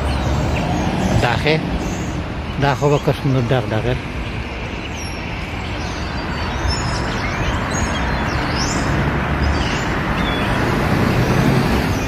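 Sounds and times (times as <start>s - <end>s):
road traffic rumble: 0.0s - 12.0s
small birds chirping: 0.0s - 12.0s.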